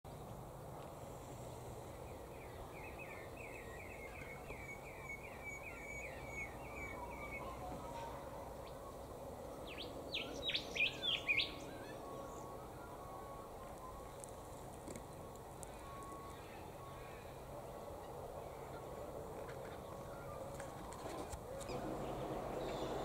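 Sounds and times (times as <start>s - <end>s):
steady background noise: 0.1s - 23.0s
wild birds calling: 1.8s - 23.0s.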